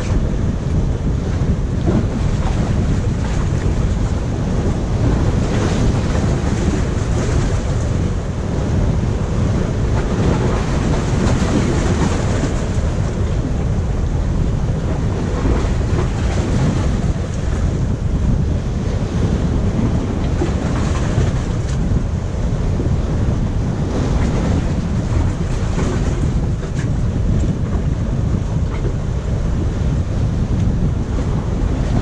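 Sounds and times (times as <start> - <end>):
waves splashing against rocks: 0.0 - 32.0
wind rumbling on microphone: 0.0 - 32.0.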